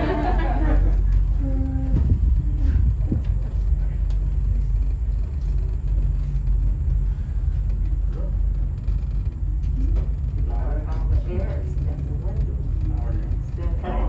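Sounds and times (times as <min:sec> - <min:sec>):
aerial tram cabin rumble: 0:00.0 - 0:14.0.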